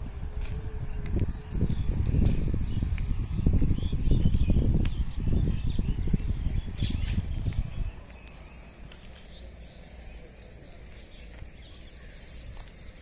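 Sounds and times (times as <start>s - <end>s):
wind buffeting microphone: 0.0s - 13.0s
bird chirps: 0.9s - 13.0s.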